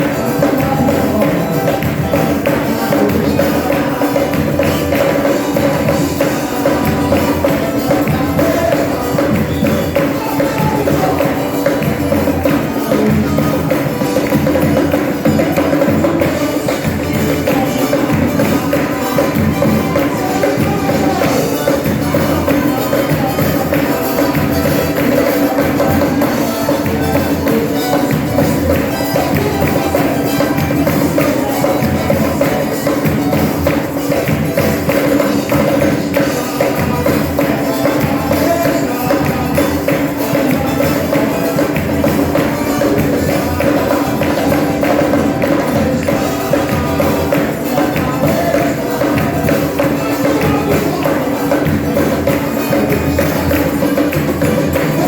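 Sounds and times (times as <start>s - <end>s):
church band playing worship music: 0.0s - 55.0s
tambourine shaken and struck: 0.0s - 55.0s.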